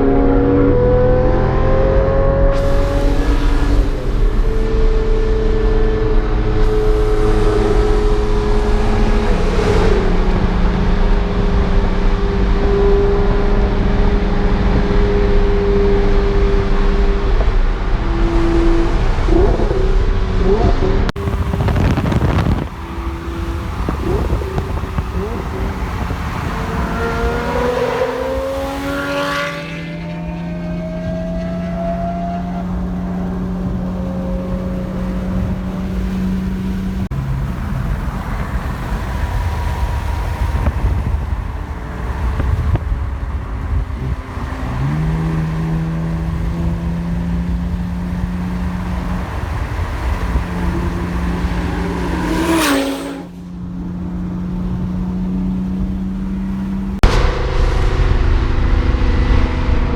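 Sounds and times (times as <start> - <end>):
sports car engine revving: 0.0 - 57.2
car rushing past with whoosh: 0.0 - 59.9.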